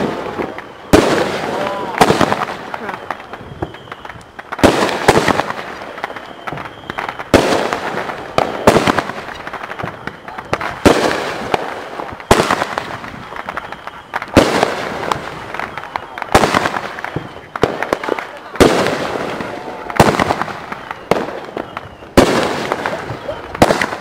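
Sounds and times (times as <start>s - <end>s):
fireworks bursting with crackles: 0.0s - 24.0s.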